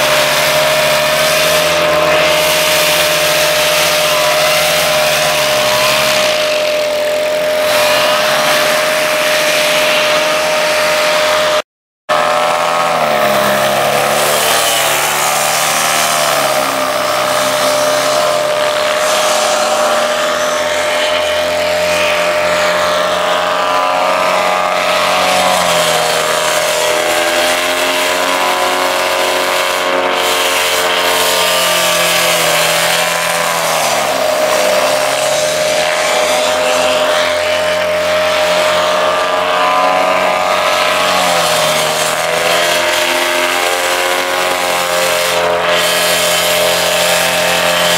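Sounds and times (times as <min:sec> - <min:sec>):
distant paramotor drone: 0:00.0 - 0:47.9
paramotor engines passing: 0:00.0 - 0:47.9.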